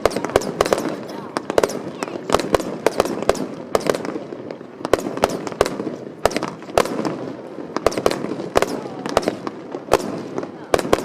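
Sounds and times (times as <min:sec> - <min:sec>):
firework shells bursting: 0:00.0 - 0:11.0
fireworks crackling: 0:00.0 - 0:11.0.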